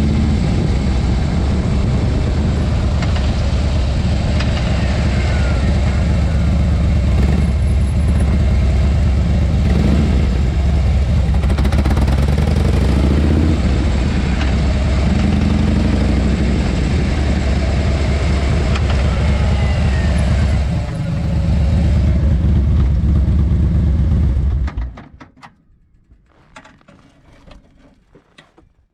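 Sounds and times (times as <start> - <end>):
motorcycle engine rumbling: 0.0 - 28.9.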